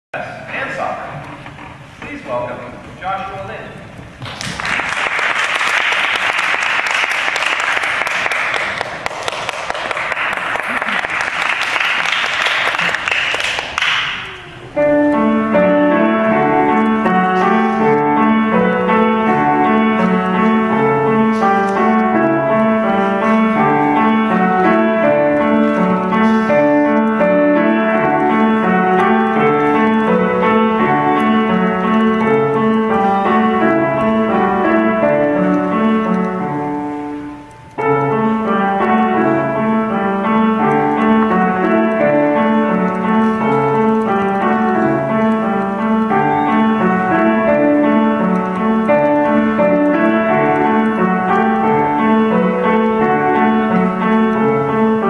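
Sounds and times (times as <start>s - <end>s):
grand piano piece: 0.1s - 55.0s.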